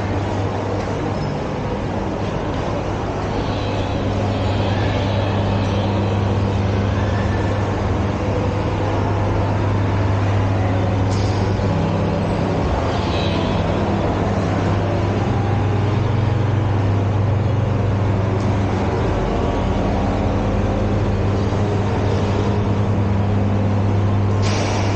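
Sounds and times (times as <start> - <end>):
escalator hum and rumble: 0.0 - 24.9
shopping mall background noise: 0.0 - 24.9.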